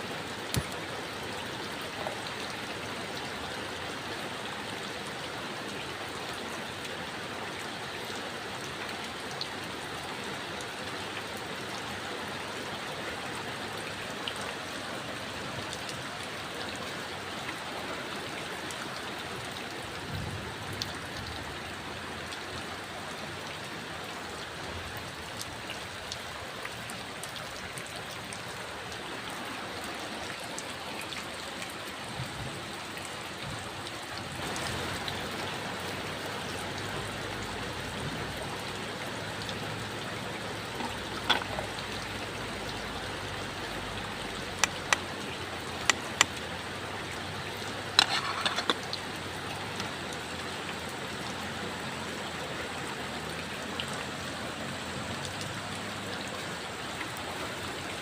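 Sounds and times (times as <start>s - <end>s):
heavy rain falling: 0.0s - 58.0s
raindrops ticking on surfaces: 0.0s - 58.0s.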